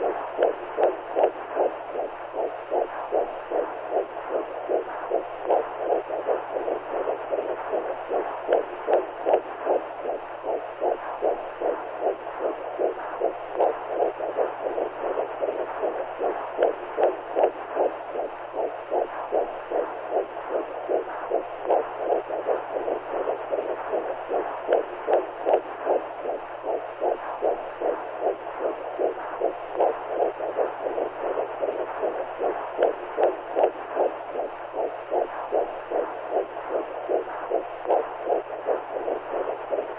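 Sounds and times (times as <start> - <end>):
faint low hum: 0.0 - 39.9
whooshing heartbeat pulse: 0.0 - 39.9.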